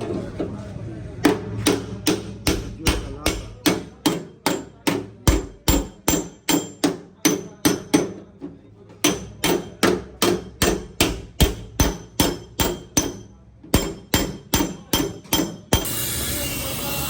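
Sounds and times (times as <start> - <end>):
hammer on sheet metal: 1.2 - 8.2, 9.0 - 17.0.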